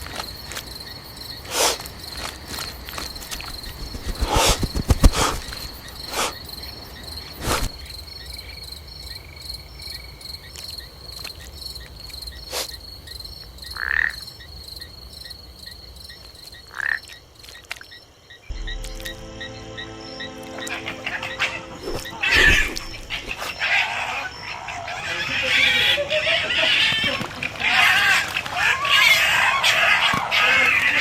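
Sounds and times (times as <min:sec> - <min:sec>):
frogs and insects trilling: 0:00.0 - 0:18.5, 0:22.9 - 0:31.0.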